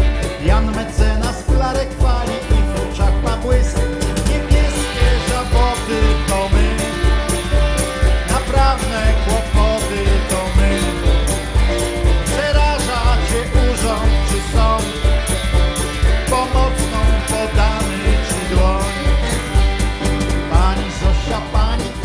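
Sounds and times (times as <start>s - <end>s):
banjo: 0.0s - 22.0s
cajon beat: 0.0s - 22.0s
electric guitar: 0.0s - 22.0s
stage piano: 0.0s - 22.0s
tambourine: 0.0s - 22.0s.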